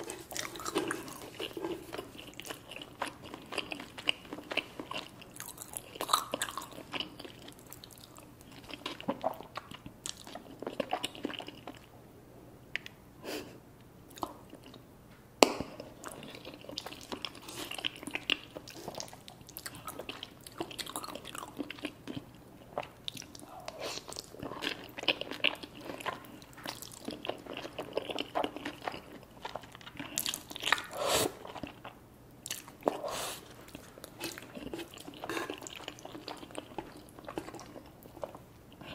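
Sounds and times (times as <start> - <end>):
person chewing and biting: 0.0 - 11.8, 16.0 - 38.9.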